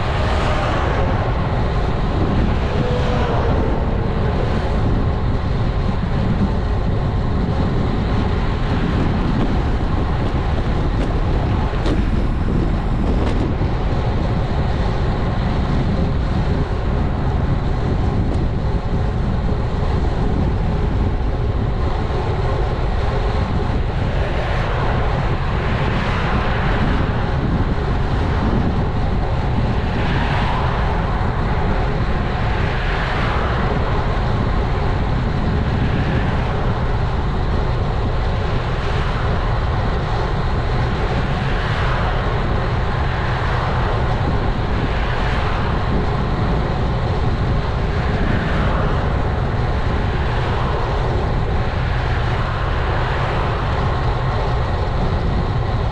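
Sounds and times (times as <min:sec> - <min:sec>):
tyre and road noise: 0:00.0 - 0:55.9
wind rushing over microphone: 0:00.0 - 0:55.9.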